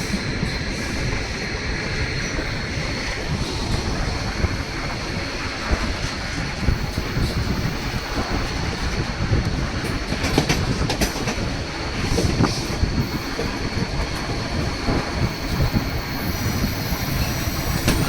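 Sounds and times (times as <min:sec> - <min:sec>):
rumble of moving train cars: 0:00.0 - 0:18.0
wheels clicking on rails: 0:01.9 - 0:18.0.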